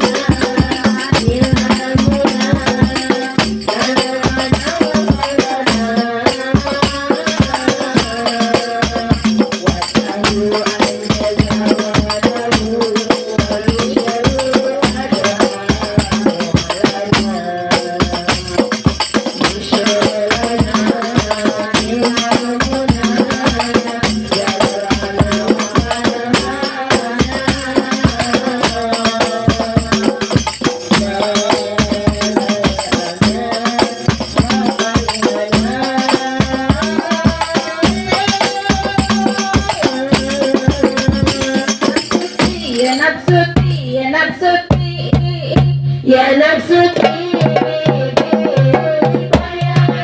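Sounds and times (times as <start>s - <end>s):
tambourine rhythm: 0.0s - 44.6s.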